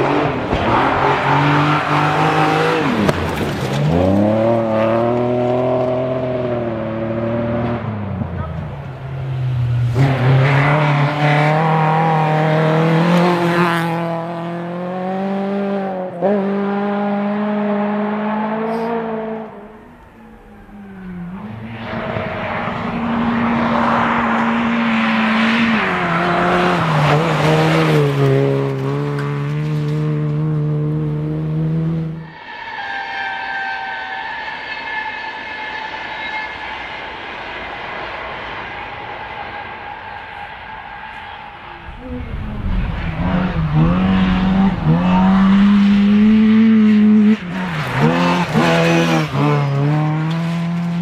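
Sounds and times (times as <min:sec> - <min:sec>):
rally cars racing at high revs: 0:00.0 - 0:51.0.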